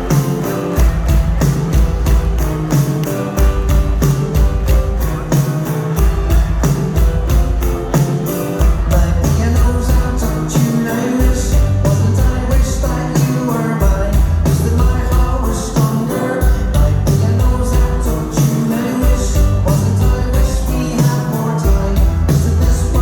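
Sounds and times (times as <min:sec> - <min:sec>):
drums keeping steady beat: 0:00.0 - 0:23.0
rock band playing live: 0:00.0 - 0:23.0.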